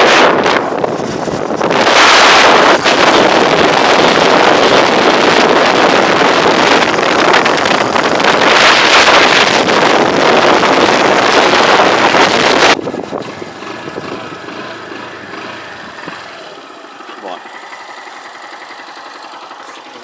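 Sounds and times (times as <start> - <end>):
wind rushing over microphone: 0.0 - 16.4.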